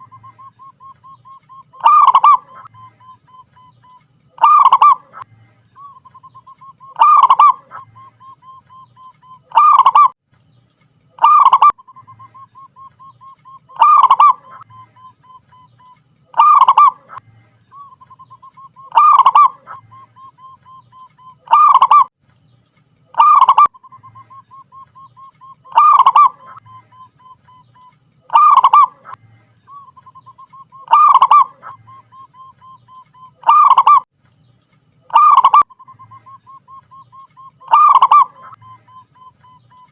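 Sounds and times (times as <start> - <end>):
dove cooing: 0.0 - 10.2, 11.2 - 17.2, 17.8 - 22.1, 23.1 - 34.1, 35.1 - 39.9.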